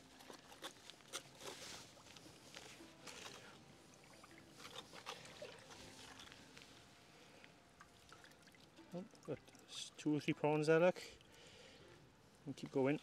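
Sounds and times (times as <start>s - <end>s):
faint water splashing: 1.4s - 13.0s.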